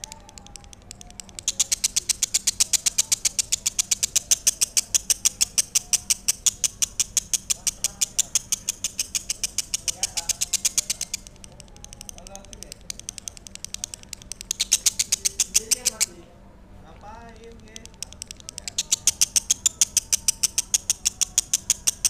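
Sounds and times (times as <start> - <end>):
lovebird rapid high chattering: 0.0 - 16.2, 17.4 - 22.0.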